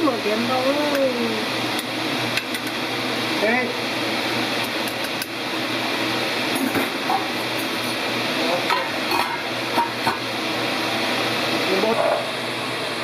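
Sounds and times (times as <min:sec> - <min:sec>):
food sizzling in a pan: 0:00.0 - 0:12.6.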